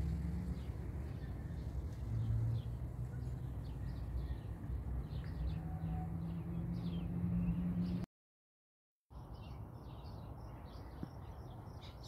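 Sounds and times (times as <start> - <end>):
small birds chirping: 0.1 - 8.0, 9.1 - 12.0.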